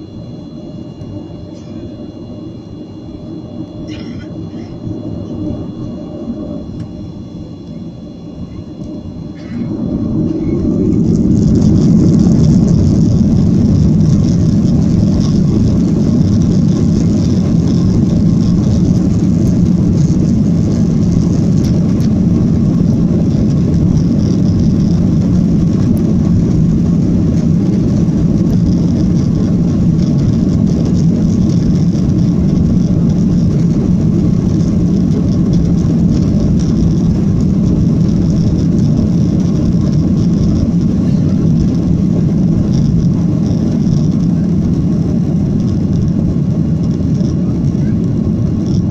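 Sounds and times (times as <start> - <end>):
jet engine roar in cabin: 0.0 - 48.9.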